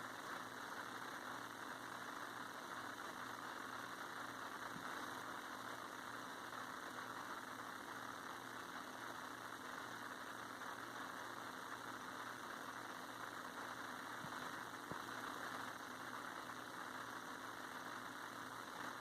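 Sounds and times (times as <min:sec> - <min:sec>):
faint motor hum: 0:00.0 - 0:19.0.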